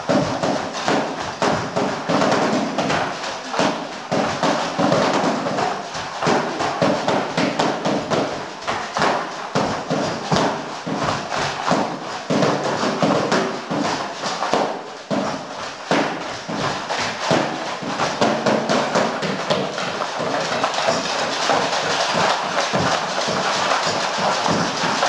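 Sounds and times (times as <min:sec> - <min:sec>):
drumming on cardboard boxes: 0:00.0 - 0:25.0.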